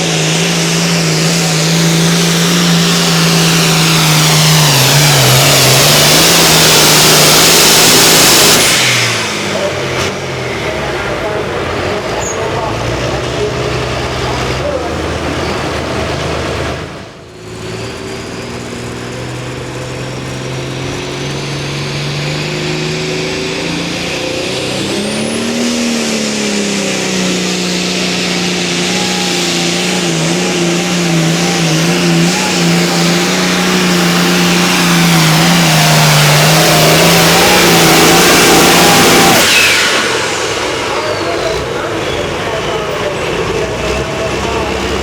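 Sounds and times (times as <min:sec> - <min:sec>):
pulling vehicle engine at full throttle: 0:00.0 - 0:45.0.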